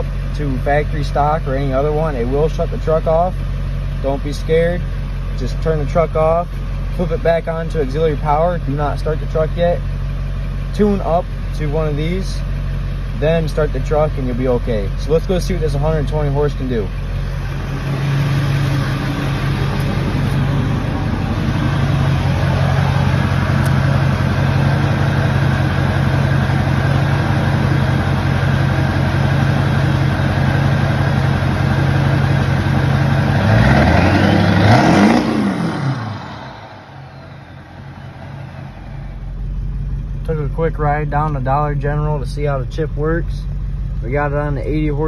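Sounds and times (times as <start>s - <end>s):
diesel engine running and revving: 0.0s - 45.0s.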